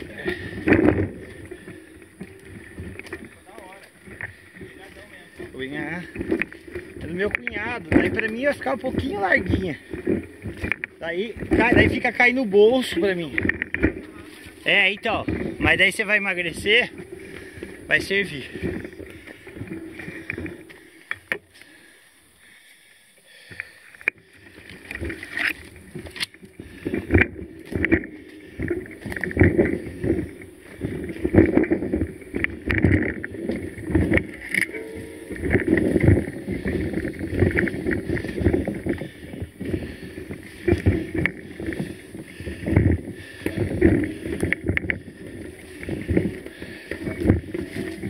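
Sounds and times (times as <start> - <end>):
mountain bike rattling on trail: 0.0 - 48.0.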